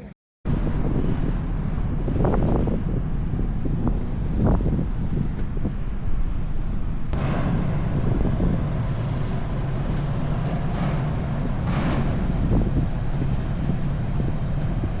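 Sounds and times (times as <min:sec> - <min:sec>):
low vehicle rumble: 0:00.0 - 0:15.0
wind buffeting microphone: 0:00.5 - 0:15.0.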